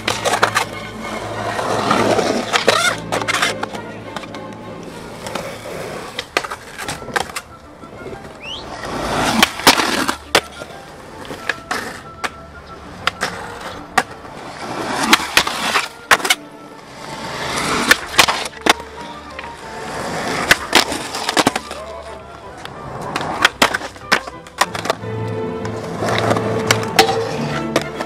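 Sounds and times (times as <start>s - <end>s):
skateboard popping and landing: 0.0s - 25.0s, 25.6s - 28.0s
skateboard wheels rolling on concrete: 0.0s - 28.0s.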